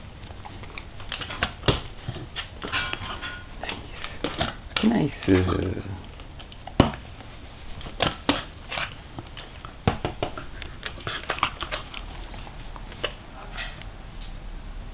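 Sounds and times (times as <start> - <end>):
dog mouthing a ball: 0.0 - 13.8.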